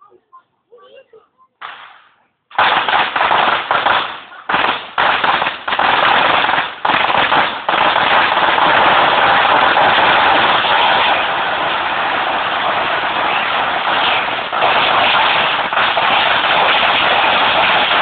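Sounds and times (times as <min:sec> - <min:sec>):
firecrackers going off: 0:01.6 - 0:18.0.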